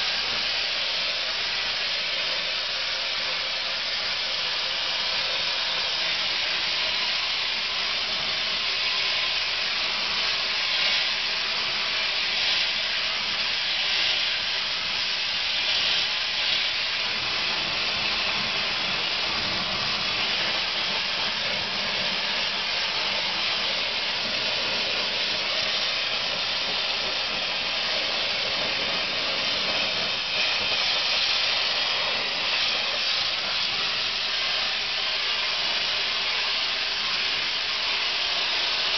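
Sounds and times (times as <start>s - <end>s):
media blaster hissing: 0.0s - 38.9s.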